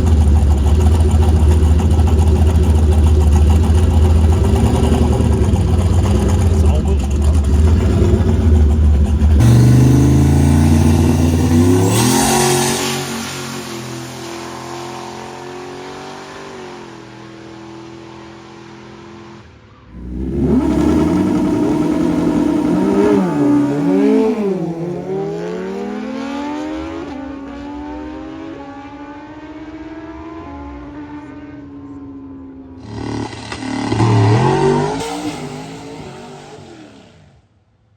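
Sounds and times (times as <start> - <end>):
drag car engines revving: 0.0 - 29.8, 32.8 - 37.4.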